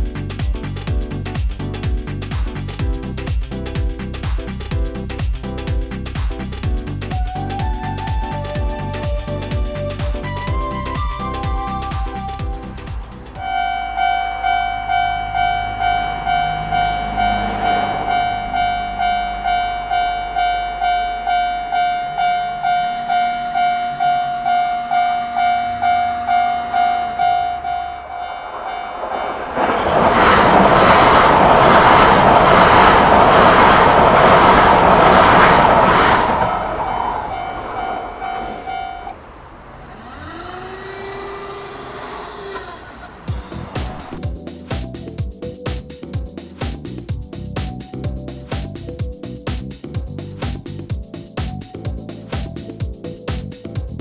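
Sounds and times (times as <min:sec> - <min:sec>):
train passing: 0:07.0 - 0:54.0.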